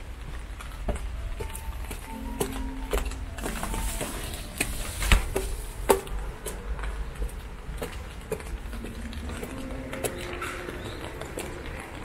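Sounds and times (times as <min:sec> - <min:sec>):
footsteps on concrete stairs: 0:00.0 - 0:12.0.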